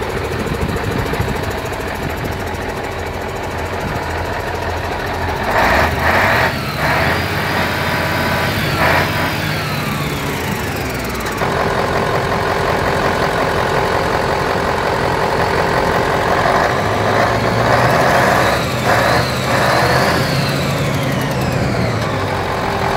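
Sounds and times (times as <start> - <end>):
diesel truck engine running: 0.0 - 22.9.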